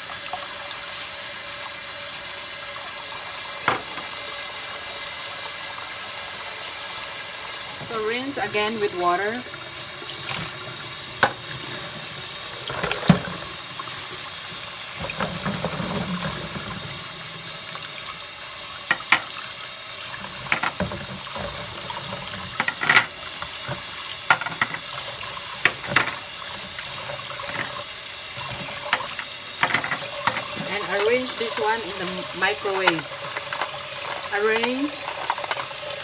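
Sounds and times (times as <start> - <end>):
tap running into sink: 3.5 - 4.5, 7.5 - 36.0.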